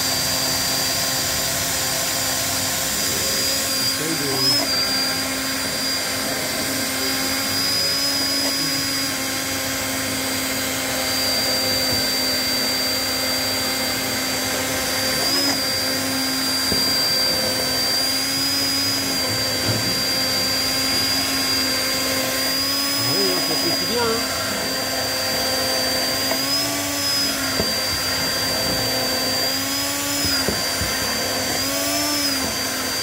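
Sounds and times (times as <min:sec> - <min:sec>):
immersion blender whining: 0:00.0 - 0:33.0.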